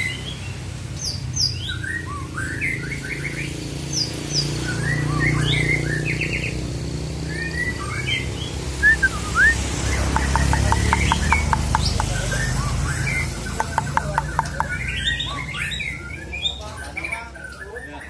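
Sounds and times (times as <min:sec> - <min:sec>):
bird singing whistles and trills: 0:00.0 - 0:06.6, 0:07.2 - 0:18.0.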